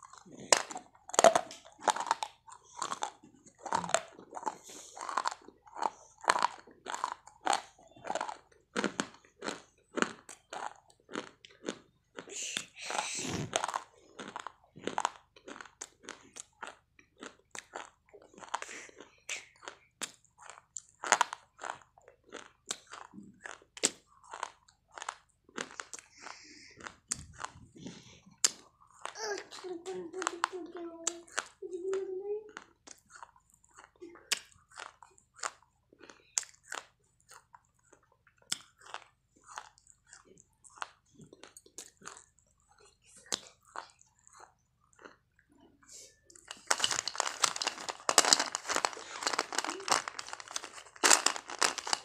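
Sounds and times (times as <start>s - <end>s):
chewing chalk crunches: 0.0s - 52.0s.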